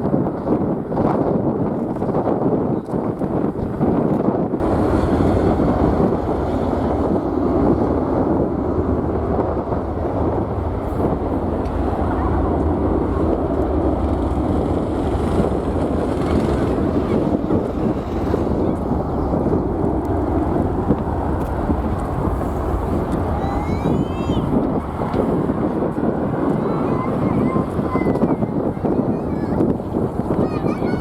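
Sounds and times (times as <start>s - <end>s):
jet engines at takeoff: 0.0s - 31.0s
wind buffeting microphone: 0.0s - 31.0s.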